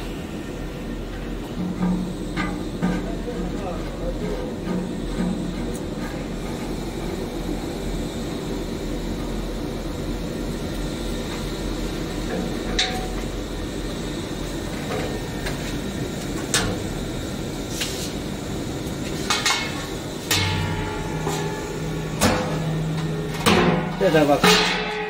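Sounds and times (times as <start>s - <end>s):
workshop machinery hum: 0.0s - 25.0s.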